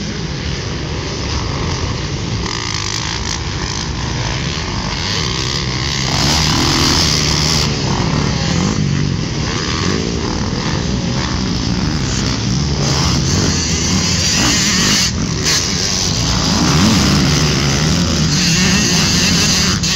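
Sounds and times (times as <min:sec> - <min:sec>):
dirt bike engines revving: 0:00.0 - 0:19.9
loud rushing noise: 0:00.0 - 0:19.9.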